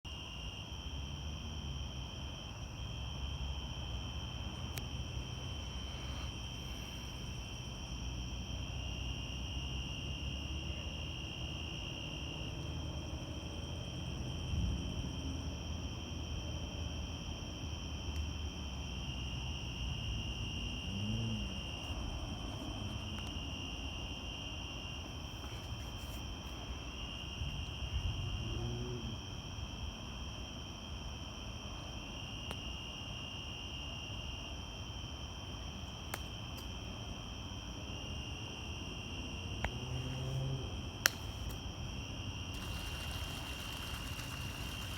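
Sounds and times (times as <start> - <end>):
insects chirring: 0.1 - 44.9.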